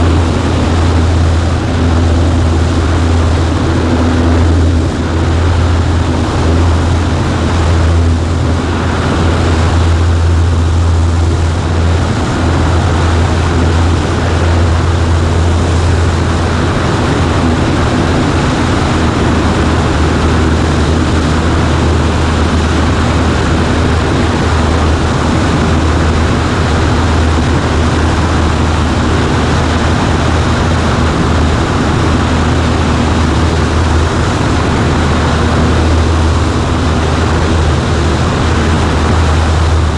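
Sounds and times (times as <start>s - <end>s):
propeller plane engine droning: 0.0s - 39.9s
wind noise: 0.0s - 39.9s.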